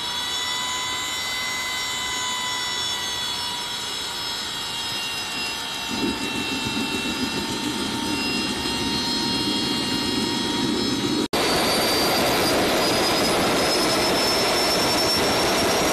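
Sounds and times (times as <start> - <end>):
jet turbine whining: 0.0 - 15.9.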